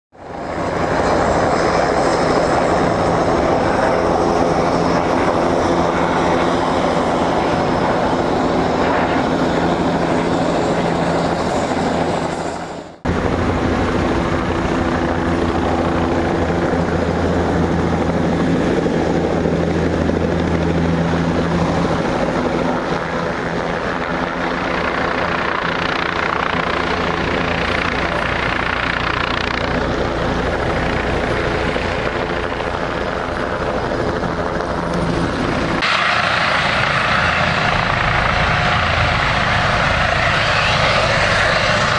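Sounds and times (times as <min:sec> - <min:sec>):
helicopter turbine and rotor noise: 0:00.1 - 0:41.9.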